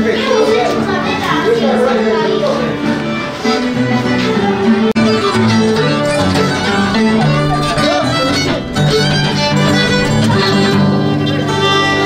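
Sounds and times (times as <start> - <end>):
plucked string accompaniment: 0.0 - 12.0
folk violin melody: 0.1 - 12.0.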